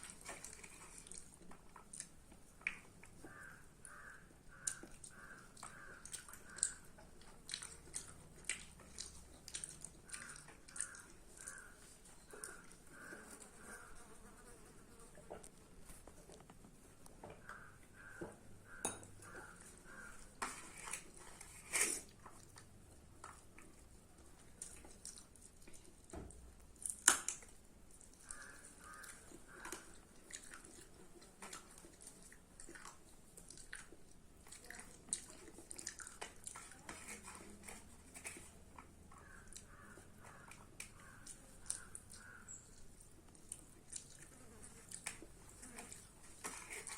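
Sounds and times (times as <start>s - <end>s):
person chewing food: 0.0s - 14.1s, 15.2s - 46.9s.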